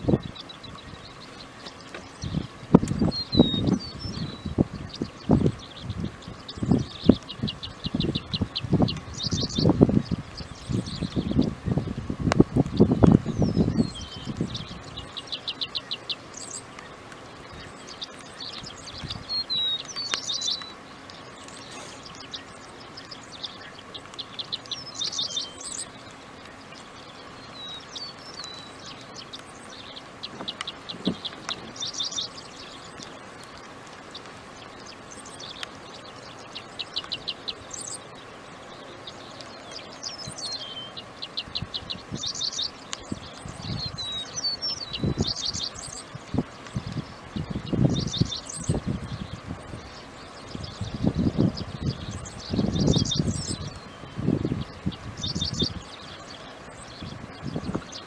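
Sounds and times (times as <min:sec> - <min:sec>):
songbird chirps and dry trill: 0:00.0 - 0:58.0.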